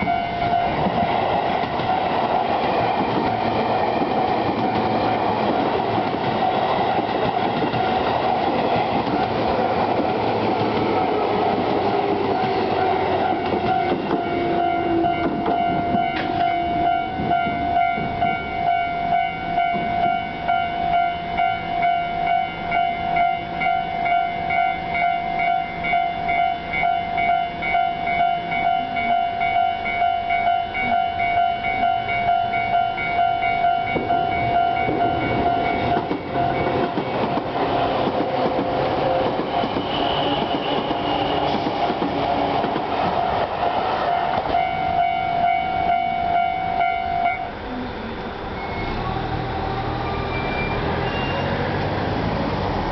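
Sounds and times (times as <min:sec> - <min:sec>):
level crossing warning bell: 0:00.0 - 0:02.2, 0:04.5 - 0:40.4, 0:43.3 - 0:47.8
train passing on rails: 0:00.0 - 0:52.9.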